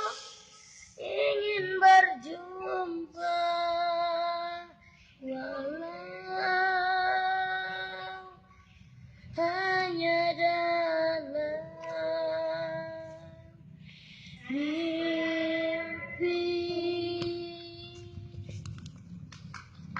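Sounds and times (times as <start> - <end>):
child singing: 0.0 - 8.4, 9.4 - 13.2, 14.5 - 18.3.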